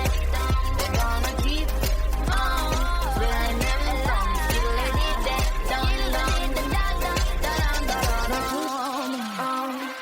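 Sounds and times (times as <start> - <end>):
deep kick drum: 0.0 - 8.4
bass: 0.0 - 8.6
held synth chords: 0.0 - 10.0.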